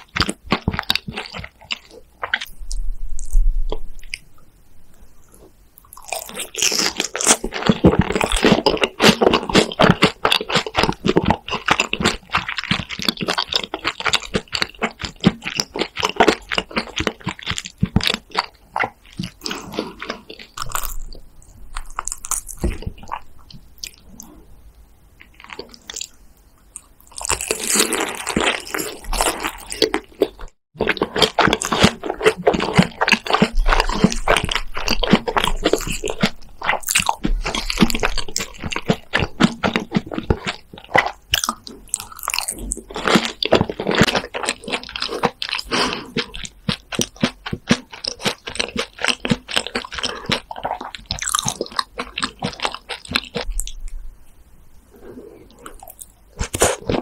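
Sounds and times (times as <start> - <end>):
crunching and chewing fries: 0.0 - 3.4, 5.3 - 24.3, 25.2 - 26.2, 26.8 - 53.9, 55.5 - 57.0.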